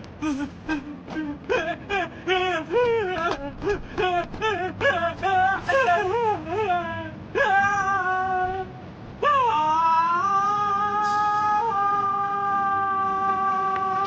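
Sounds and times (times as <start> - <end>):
high voice wailing: 0.2 - 14.0.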